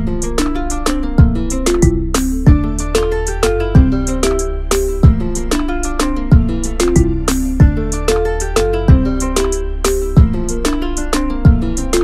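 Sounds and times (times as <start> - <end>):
plucked notes over a beat: 0.0 - 12.0.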